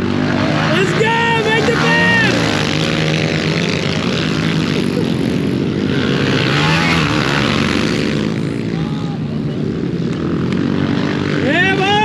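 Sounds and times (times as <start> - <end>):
pit bike engines racing: 0.0 - 12.0.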